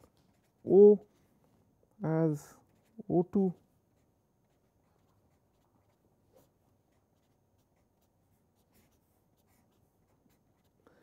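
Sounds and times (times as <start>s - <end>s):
marker pen scratching on paper: 0.0s - 1.5s, 2.4s - 10.8s.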